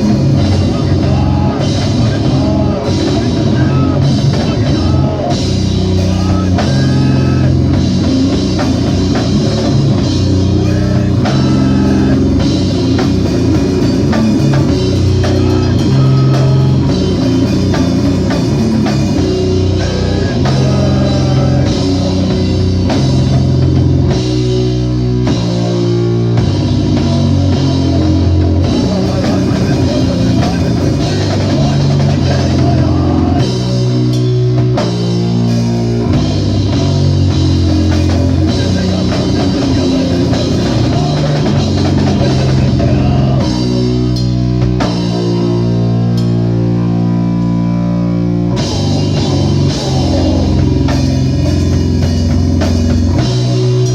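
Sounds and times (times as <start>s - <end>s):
drum kit: 0.0s - 53.9s
electric guitar: 0.0s - 53.9s
live rock band playing: 0.0s - 53.9s.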